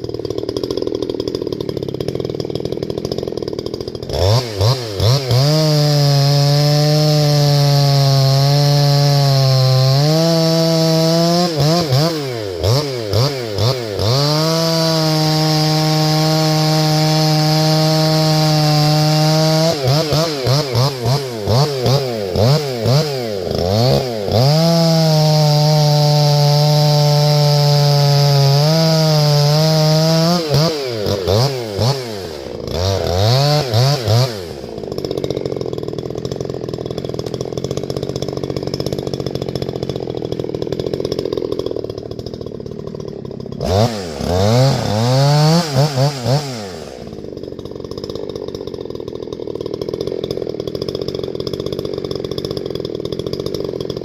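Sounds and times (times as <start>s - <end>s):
two-stroke chainsaw revving: 0.0s - 54.0s.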